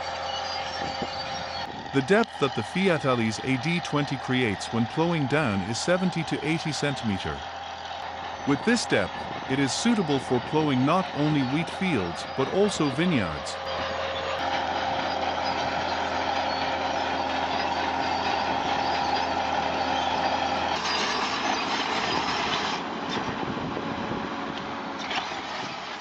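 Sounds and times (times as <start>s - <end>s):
heavy diesel machine engine: 0.0s - 26.0s
steady mechanical whine: 0.0s - 26.0s.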